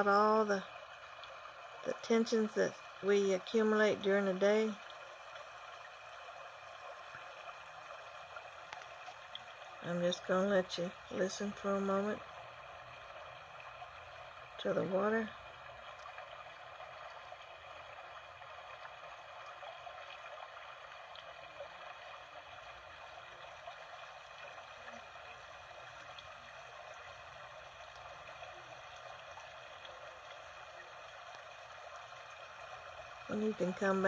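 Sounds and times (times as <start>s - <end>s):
stream flowing over rocks: 0.0s - 34.0s.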